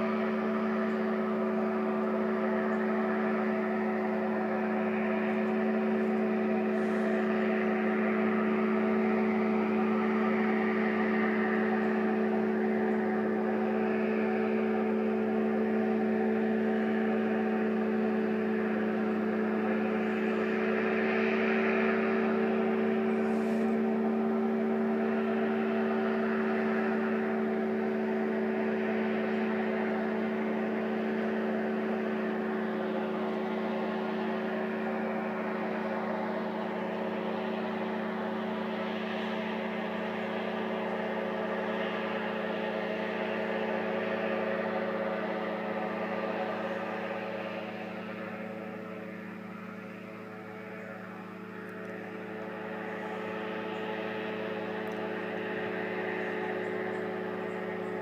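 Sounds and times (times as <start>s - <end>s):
airboat engine and propeller drone: 0.0s - 58.0s.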